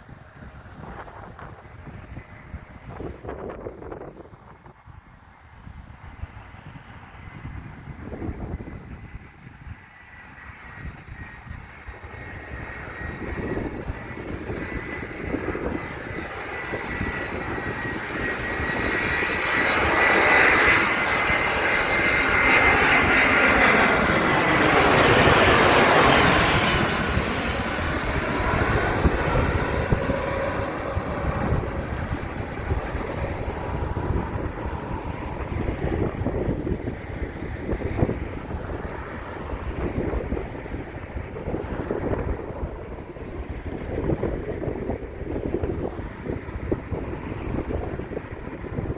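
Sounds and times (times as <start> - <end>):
airliner passing by: 0.0 - 48.9
wind rumble on microphone: 0.0 - 48.9.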